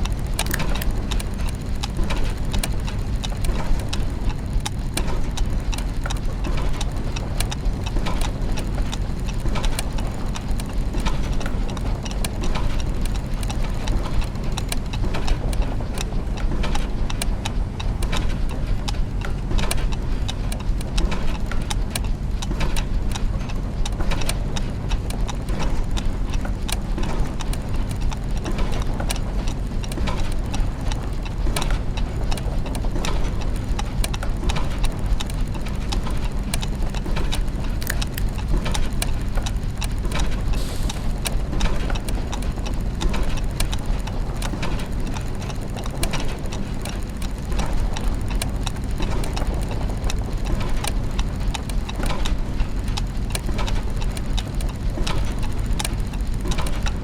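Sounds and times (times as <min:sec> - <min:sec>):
clockwork gears ticking and clicking: 0:00.0 - 0:57.0
low mechanical hum: 0:00.0 - 0:57.0.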